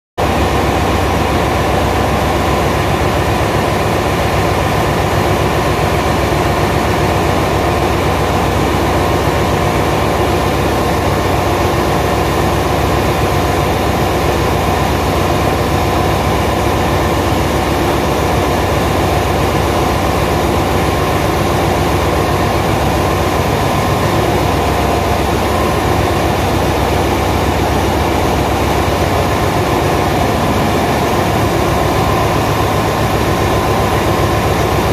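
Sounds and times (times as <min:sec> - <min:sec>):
engine-room machinery drone: 0:00.2 - 0:34.9.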